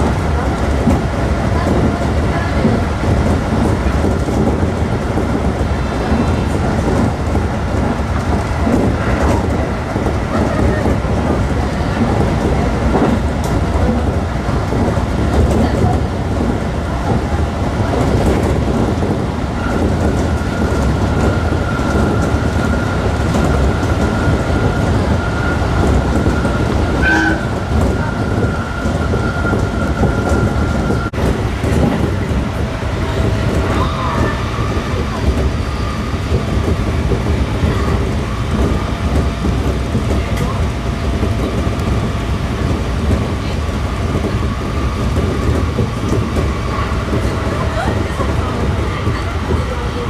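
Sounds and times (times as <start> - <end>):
freight train wagons clattering: 0.0 - 50.0.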